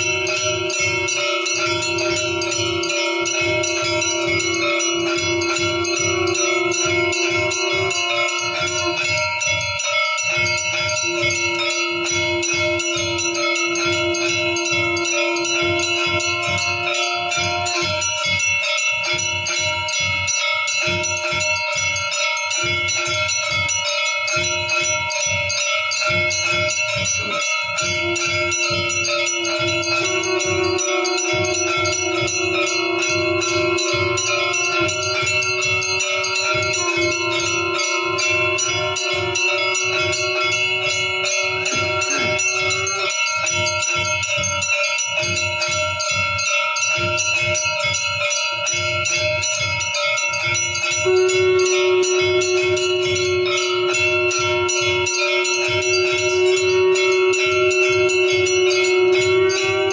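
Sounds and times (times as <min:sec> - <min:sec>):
low held tone: 0:00.0 - 0:47.8, 0:48.7 - 0:59.9
bells ringing rapidly: 0:00.0 - 0:59.9.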